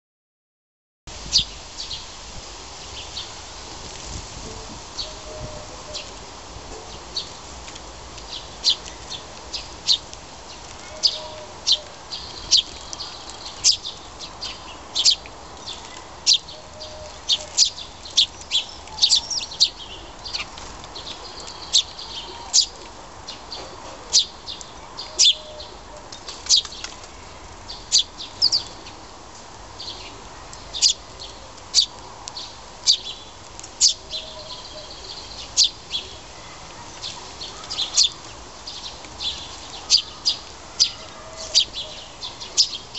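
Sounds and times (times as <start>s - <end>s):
sparrows chirping: 1.2s - 2.2s, 2.8s - 3.7s, 5.0s - 6.2s, 6.8s - 7.5s, 8.2s - 42.9s.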